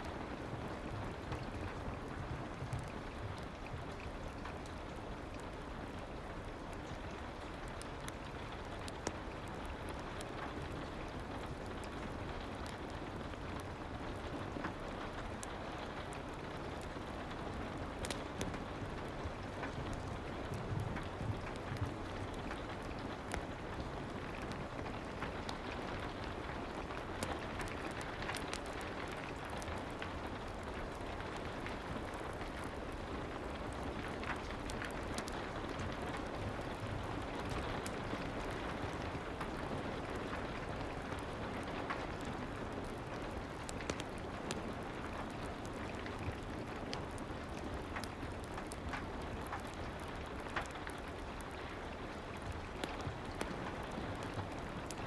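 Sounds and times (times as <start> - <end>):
soft rain hiss: 0.0 - 55.0.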